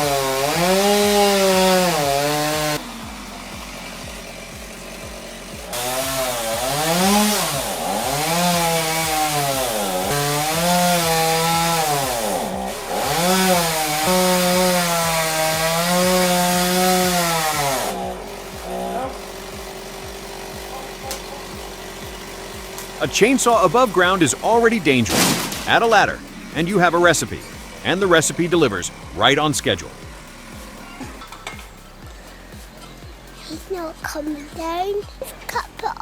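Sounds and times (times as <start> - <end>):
chainsaw cutting wood: 0.0 - 36.0.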